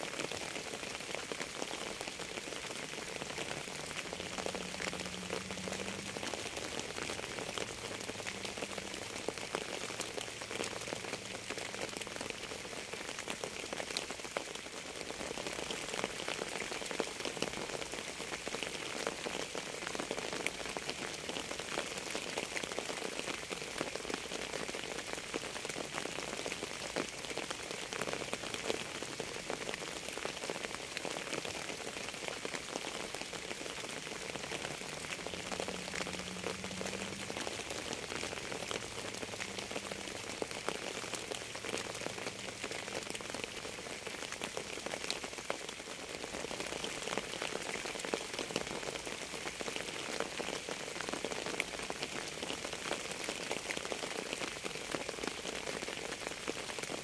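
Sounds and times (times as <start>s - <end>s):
raindrops striking surface: 0.0s - 57.0s
steady rain falling: 0.0s - 57.0s.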